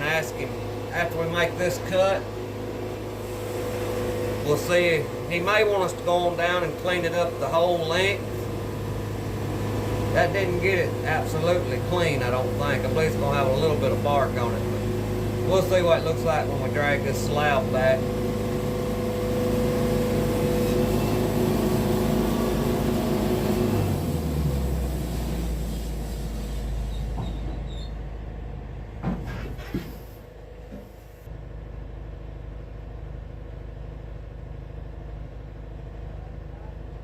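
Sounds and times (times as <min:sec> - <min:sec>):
sawmill engine running: 0:00.0 - 0:37.0.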